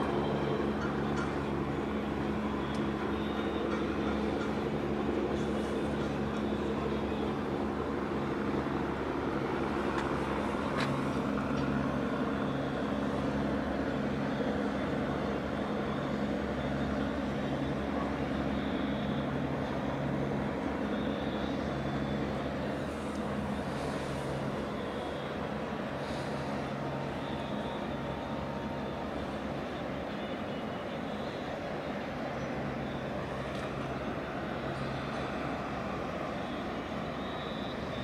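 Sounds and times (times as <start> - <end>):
ship diesel engines droning: 0.0 - 38.0.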